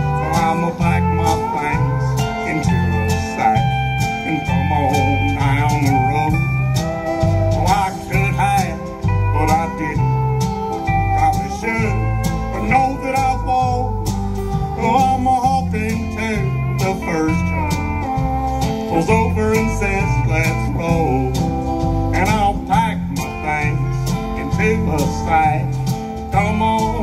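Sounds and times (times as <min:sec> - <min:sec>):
bass line: 0:00.0 - 0:27.0
drums with steady beat: 0:00.0 - 0:27.0
electric and acoustic guitars: 0:00.0 - 0:27.0
steel guitar gliding: 0:00.0 - 0:27.0.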